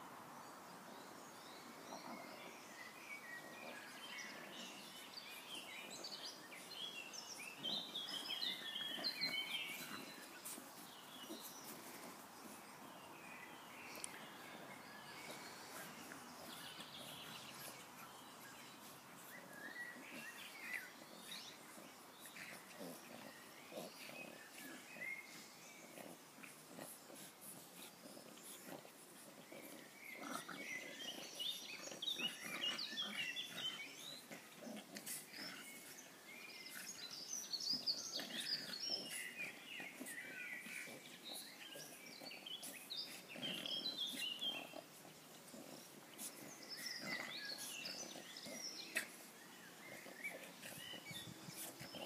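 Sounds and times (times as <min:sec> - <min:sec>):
dogs growling and grunting: 0:01.6 - 0:52.0.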